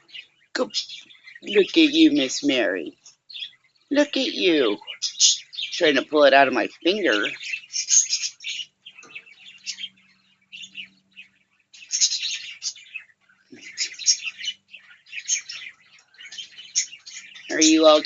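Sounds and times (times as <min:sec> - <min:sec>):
small pet birds chirping: 0:00.0 - 0:18.0.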